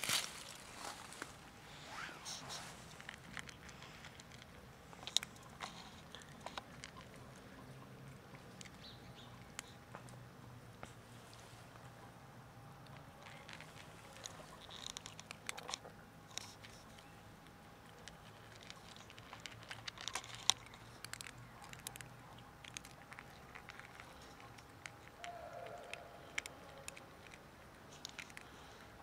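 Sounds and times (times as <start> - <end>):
cats crunching dry kibble: 0.0 - 29.0.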